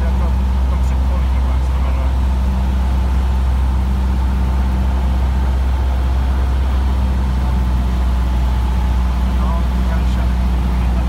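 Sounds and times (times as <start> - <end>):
airplane engine and propeller droning: 0.0 - 11.0.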